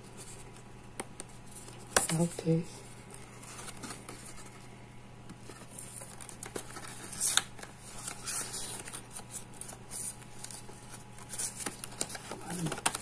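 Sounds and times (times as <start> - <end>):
plastic and paper crinkling: 0.0 - 4.7, 5.3 - 13.0.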